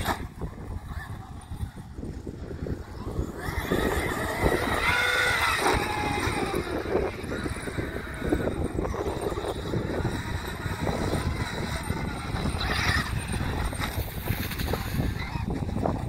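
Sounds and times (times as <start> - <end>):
electric toy truck motor running: 0.0 - 16.0
wind noise on microphone: 0.0 - 16.0.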